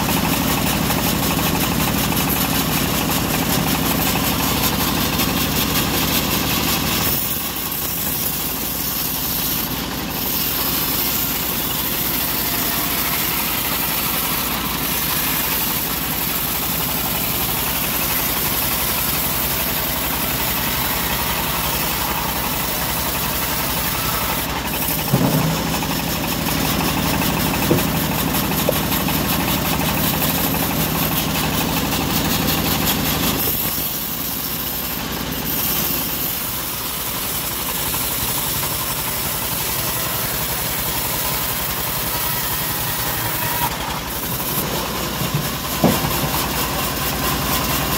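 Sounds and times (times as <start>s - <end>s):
band saw cutting log: 0.0s - 47.9s.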